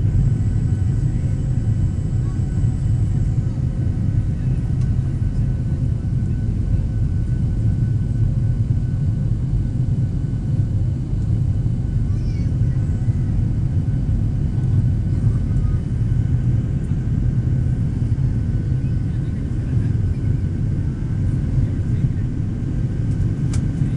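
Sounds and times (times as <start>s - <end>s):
airplane cabin rumble: 0.0s - 23.9s.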